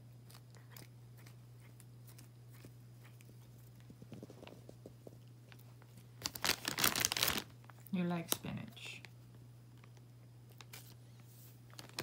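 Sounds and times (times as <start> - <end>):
cat chewing leaves: 0.0 - 12.0
steady low hum: 0.0 - 12.0.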